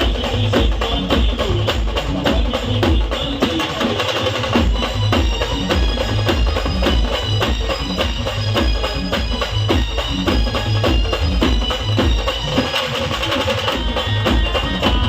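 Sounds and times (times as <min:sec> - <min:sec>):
heavy bass drum beats: 0:00.0 - 0:15.0
instrumental band music: 0:00.0 - 0:15.0.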